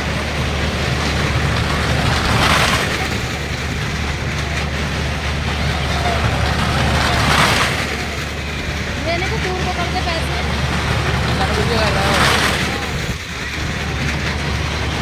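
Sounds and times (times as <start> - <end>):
vehicle engines droning past: 0.0 - 15.0.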